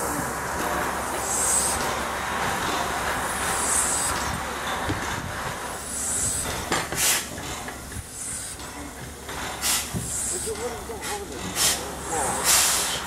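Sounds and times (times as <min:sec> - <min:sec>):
steam engine rumbling: 0:00.0 - 0:13.0
steam hiss: 0:00.0 - 0:13.0.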